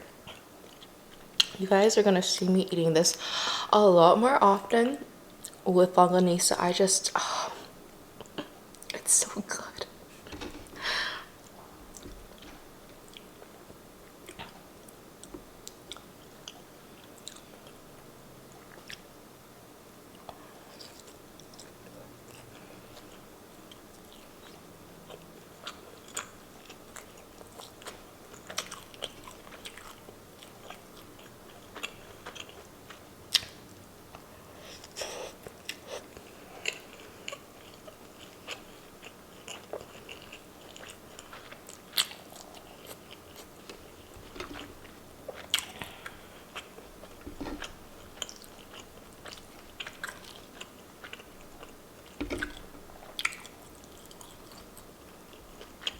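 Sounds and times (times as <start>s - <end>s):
person chewing food: 0.2s - 1.6s, 11.2s - 19.1s, 20.1s - 55.9s.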